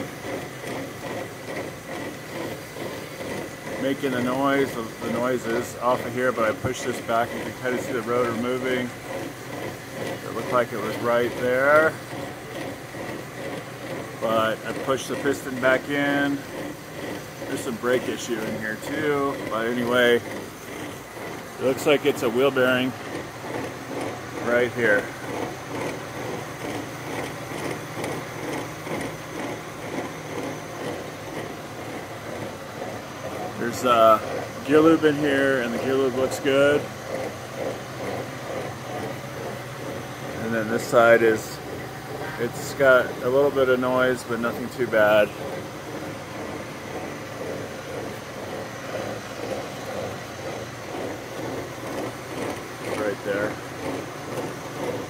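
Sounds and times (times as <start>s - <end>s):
axle rolling noise: 0.0s - 55.0s
drivetrain hum: 0.0s - 55.0s
rhythmic wheel bearing rumbling: 0.0s - 55.0s.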